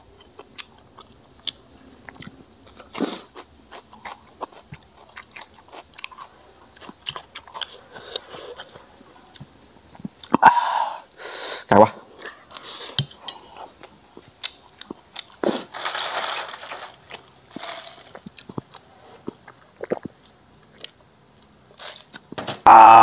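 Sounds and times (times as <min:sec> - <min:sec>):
chewing crispy fried food: 0:00.0 - 0:10.4, 0:12.2 - 0:22.3.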